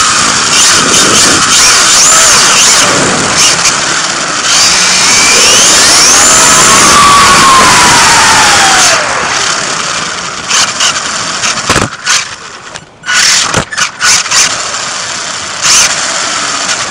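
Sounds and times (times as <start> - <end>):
toy car motor whining: 0.0 - 16.9.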